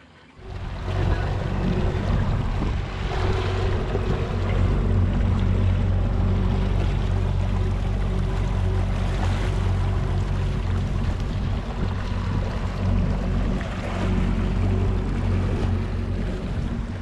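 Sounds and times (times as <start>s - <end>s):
boat wake water: 0.0s - 17.0s
outboard engine running: 0.3s - 17.0s
wind noise: 0.4s - 17.0s.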